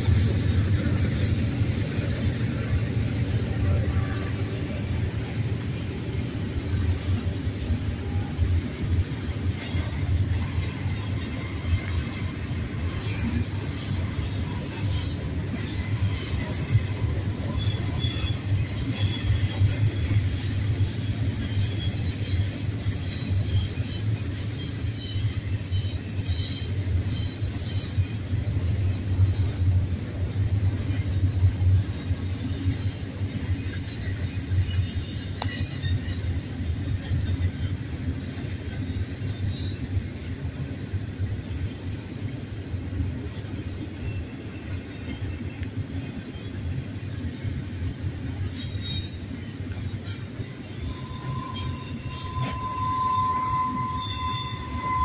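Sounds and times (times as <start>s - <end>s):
high-pitched wheel squeal: 0.0s - 55.0s
train wheels rumbling on rail: 0.0s - 55.0s.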